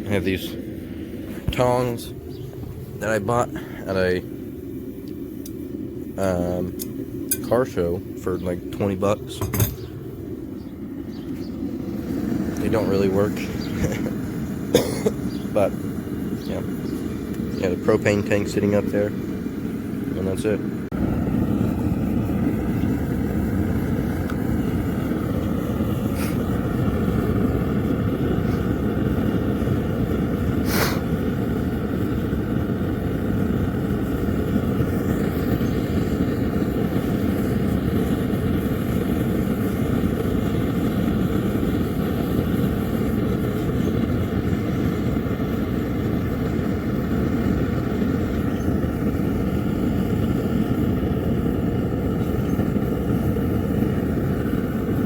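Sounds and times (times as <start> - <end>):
gas burner rushing: 0.0 - 55.0.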